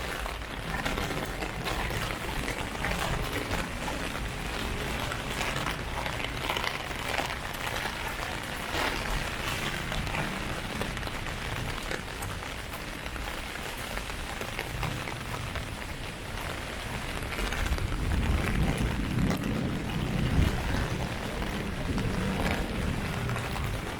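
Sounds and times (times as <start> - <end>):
heavy rain on an umbrella: 0.0 - 23.9.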